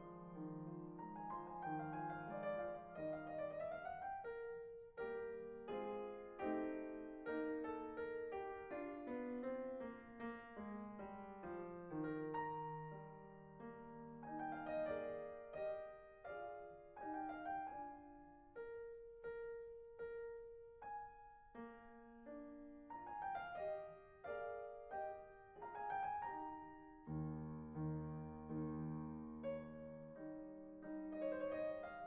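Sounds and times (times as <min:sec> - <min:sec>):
solo piano music: 0:00.0 - 0:32.0.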